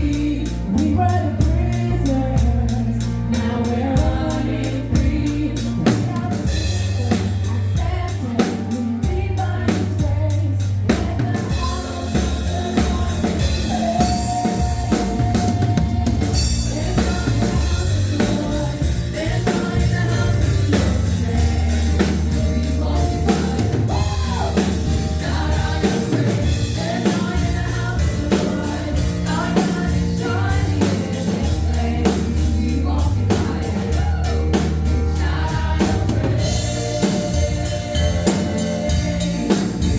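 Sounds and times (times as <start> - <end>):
band playing gospel music: 0.0 - 39.9
drum kit beat: 0.0 - 39.9
voices singing: 0.0 - 39.9.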